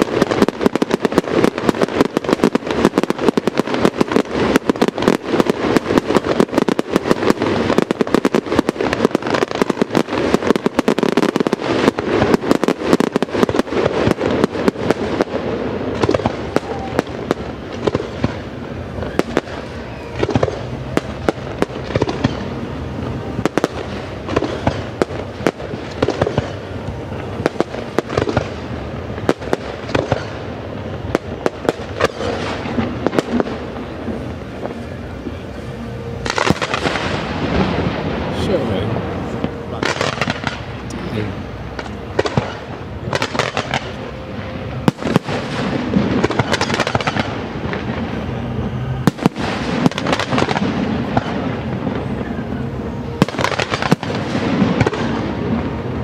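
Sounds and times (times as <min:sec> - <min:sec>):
continuous rumble: 0:00.0 - 0:56.0
fireworks bangs and crackles: 0:00.0 - 0:56.0.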